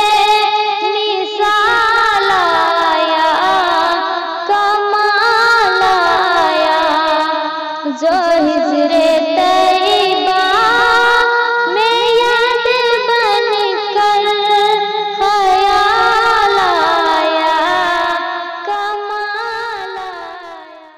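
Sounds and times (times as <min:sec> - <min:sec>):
woman singing devotional song: 0:00.0 - 0:20.9.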